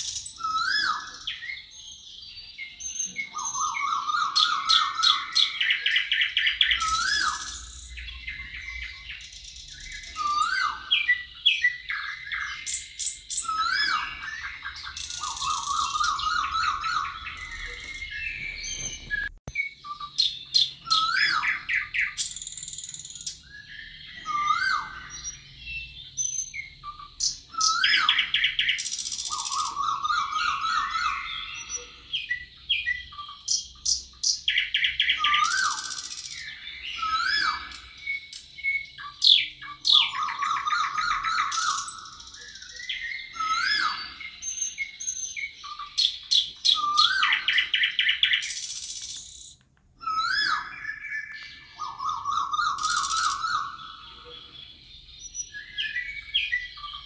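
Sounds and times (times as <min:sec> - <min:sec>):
bird chirps: 0:00.0 - 0:57.0
songbirds singing: 0:00.0 - 0:57.0.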